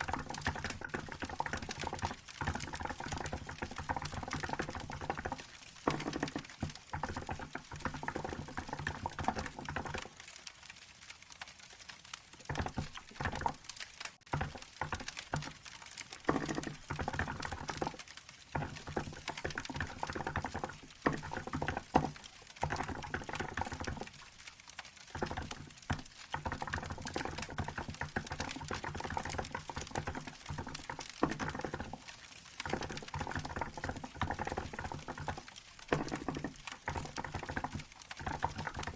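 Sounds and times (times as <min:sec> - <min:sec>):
fast typing on keyboard: 0:00.0 - 0:10.5, 0:12.2 - 0:38.9.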